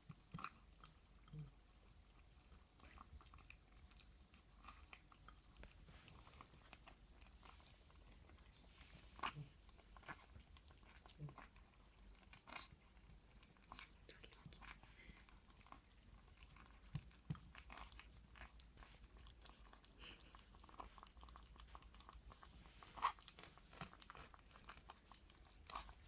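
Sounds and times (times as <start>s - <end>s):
puppies chewing and smacking: 0.0s - 26.0s.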